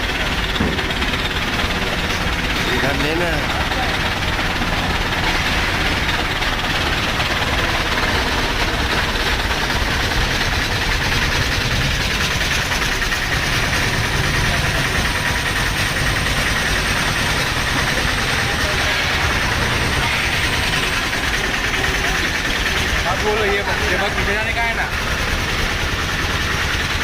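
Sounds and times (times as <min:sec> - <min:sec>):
heavy engine idling: 0:00.0 - 0:27.0.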